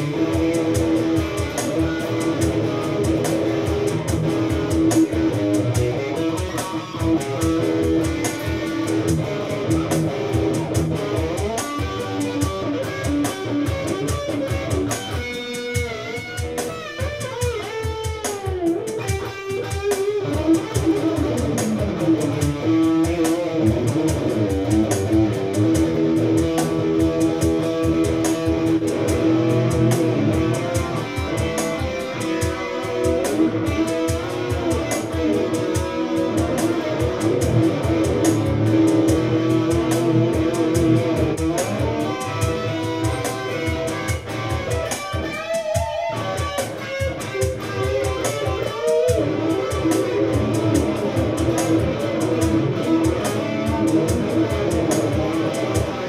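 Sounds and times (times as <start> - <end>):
electric guitar lead lines: 0.0 - 56.0.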